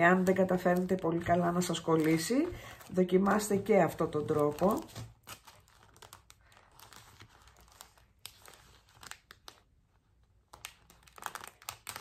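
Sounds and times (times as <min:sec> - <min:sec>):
plastic sheet crinkling: 0:00.0 - 0:12.0.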